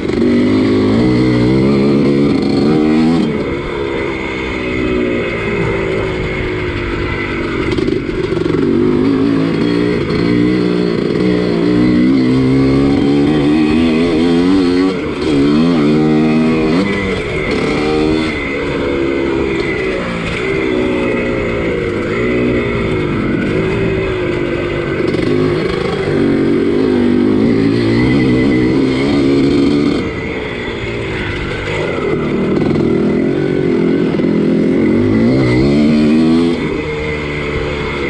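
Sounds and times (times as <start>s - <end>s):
motocross engine revving: 0.0s - 38.0s.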